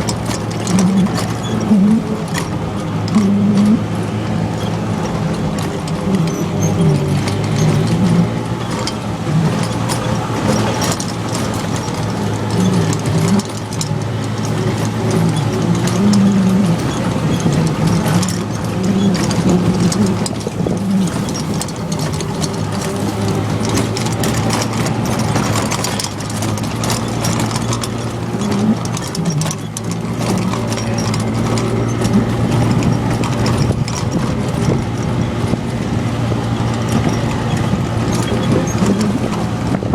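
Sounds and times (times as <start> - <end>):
cart body rattling: 0.0 - 39.9
golf cart motor droning: 0.0 - 39.9.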